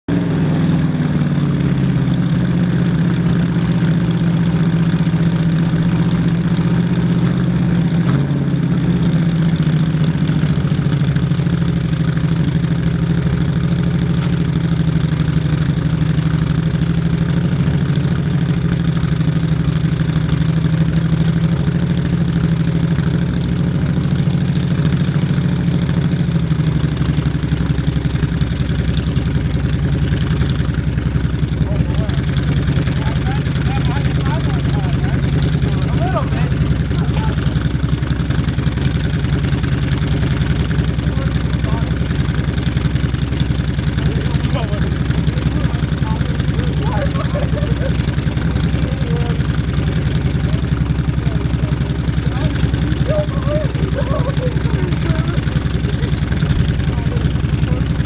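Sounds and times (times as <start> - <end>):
car engine idling: 0.1 - 58.0.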